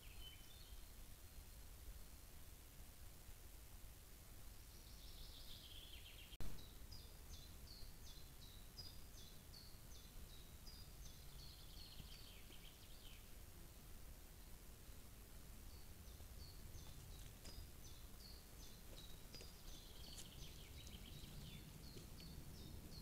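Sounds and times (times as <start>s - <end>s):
songbirds singing: 0.0s - 1.6s, 4.4s - 23.0s.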